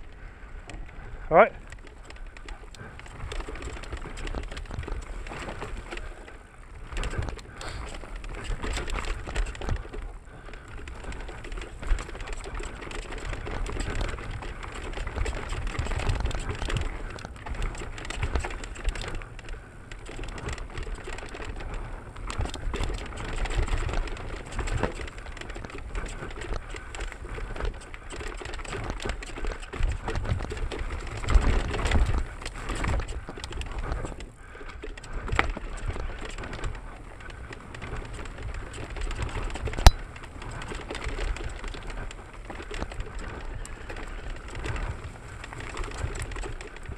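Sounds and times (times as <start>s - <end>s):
wind rumble on microphone: 0.0s - 46.9s
bike tyres crunching over dirt: 0.1s - 46.9s.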